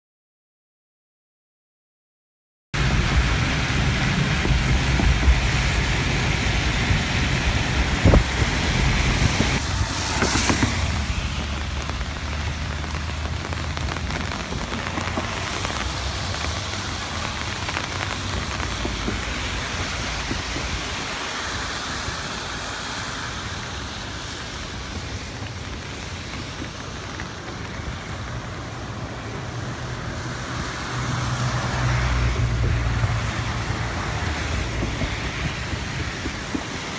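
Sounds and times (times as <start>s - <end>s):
floodwater pouring over spillway: 2.8s - 36.9s
rain: 2.8s - 36.9s.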